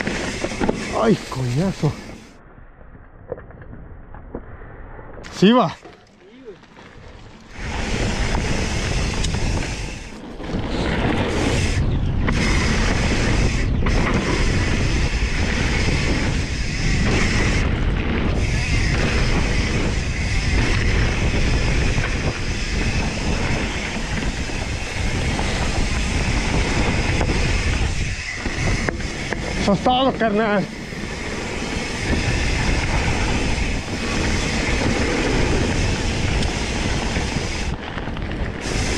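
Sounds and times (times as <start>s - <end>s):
bike tyres rolling over dirt: 0.0s - 2.4s, 3.1s - 38.9s
wind rushing over microphone: 0.0s - 2.4s, 6.9s - 38.9s.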